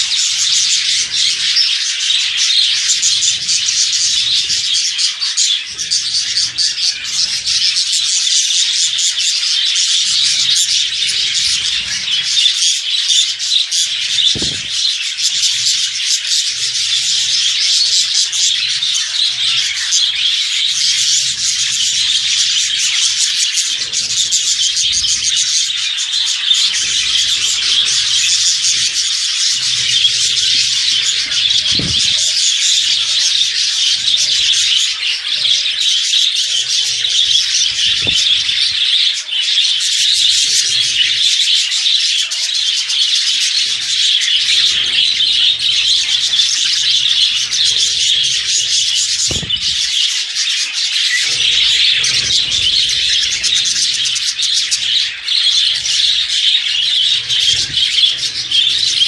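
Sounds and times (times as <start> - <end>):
small birds twittering: 0.0 - 59.0.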